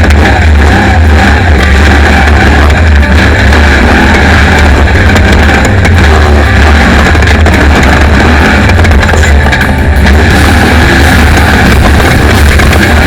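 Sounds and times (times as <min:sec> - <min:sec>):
music: 0:00.0 - 0:13.0
race car engine rumble: 0:00.0 - 0:13.0.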